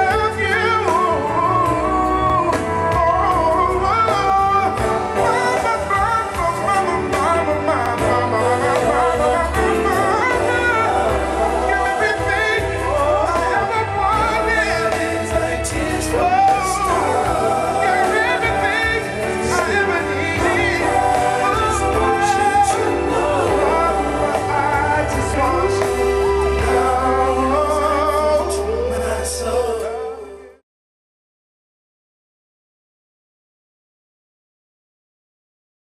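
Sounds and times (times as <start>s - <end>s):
bass line: 0.0s - 30.6s
person singing: 0.0s - 30.6s.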